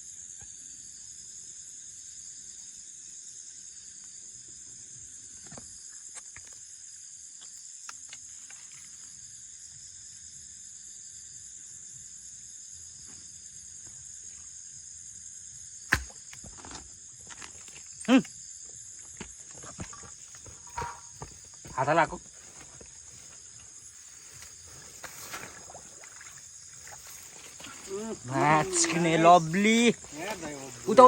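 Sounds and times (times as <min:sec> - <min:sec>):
night insects chorus: 0:00.0 - 0:31.0.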